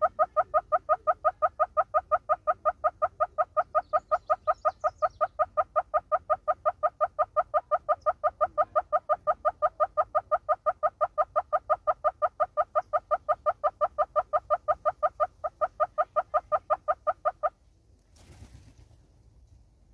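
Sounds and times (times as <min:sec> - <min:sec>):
hornbill clucking call: 0:00.0 - 0:17.6.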